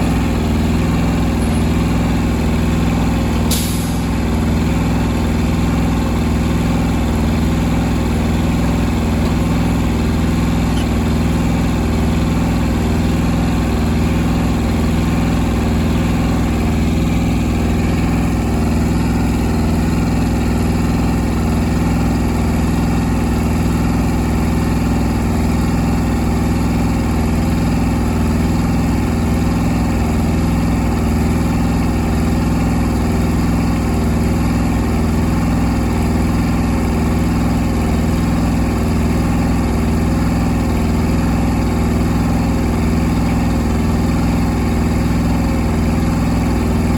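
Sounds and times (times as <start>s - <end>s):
small engine idling: 0.0s - 46.9s.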